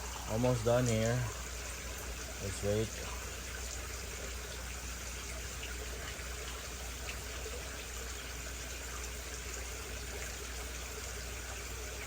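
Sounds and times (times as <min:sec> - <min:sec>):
low steady hum: 0:00.0 - 0:12.0
water running into a pond: 0:00.0 - 0:12.0.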